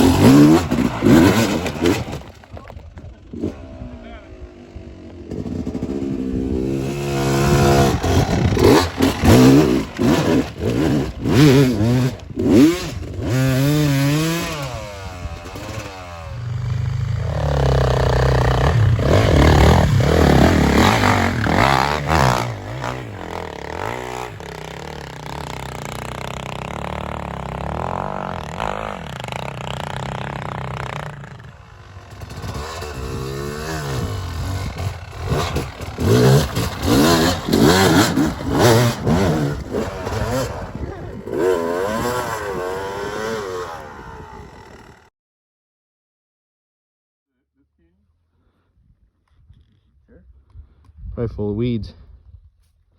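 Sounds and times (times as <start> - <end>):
off-road motorcycle engine revving: 0.0 - 45.1.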